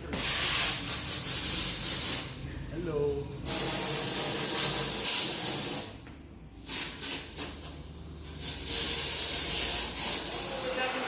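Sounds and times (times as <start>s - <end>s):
air hissing through hose: 0.1s - 2.4s, 3.4s - 6.0s, 6.6s - 11.0s.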